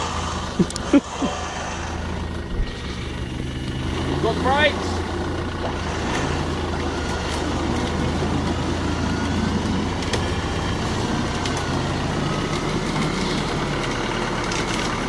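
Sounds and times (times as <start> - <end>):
off-road engine running at low revs: 0.0 - 15.0.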